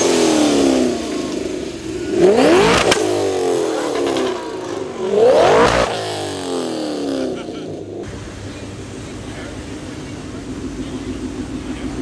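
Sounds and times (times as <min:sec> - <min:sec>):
car engine revving: 0:00.0 - 0:12.0
sharp exhaust crack: 0:00.0 - 0:12.0.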